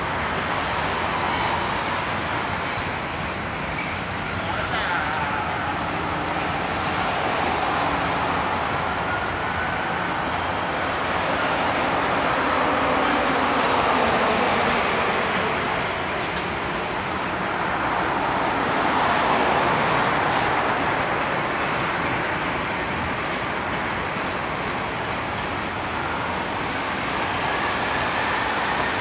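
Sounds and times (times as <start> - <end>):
freight cars rumbling over bridge: 0.0 - 29.0
road traffic passing: 0.0 - 29.0.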